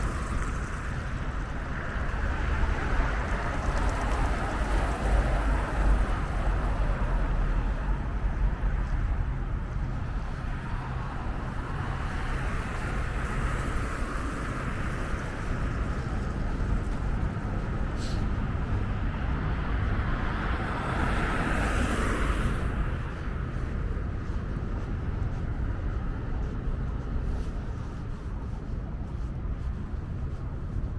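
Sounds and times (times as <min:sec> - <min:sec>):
passing cars traffic noise: 0:00.0 - 0:30.9.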